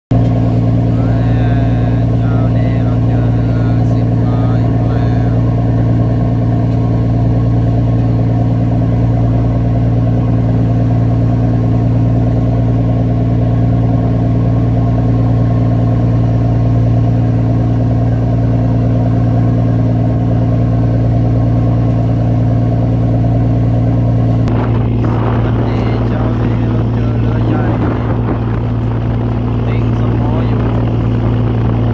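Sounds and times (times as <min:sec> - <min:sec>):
boat engine humming: 0:00.1 - 0:31.9.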